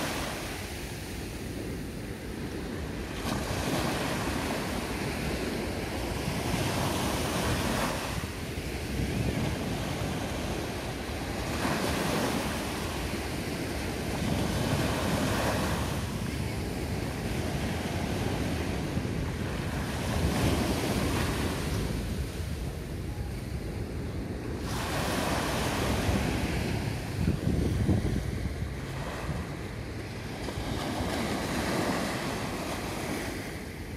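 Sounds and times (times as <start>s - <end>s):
small waves breaking on beach: 0.0s - 33.9s
wind rumble on microphone: 0.0s - 33.9s.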